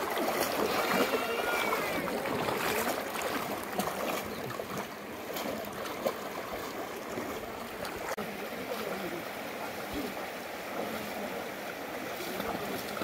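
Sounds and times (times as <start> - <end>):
floodwater sloshing around wading legs: 0.0 - 13.0.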